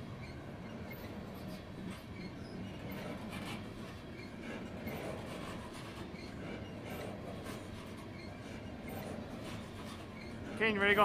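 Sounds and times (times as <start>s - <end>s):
freight train rolling on rails: 0.0s - 11.0s
wheels clicking and squeaking: 0.0s - 11.0s.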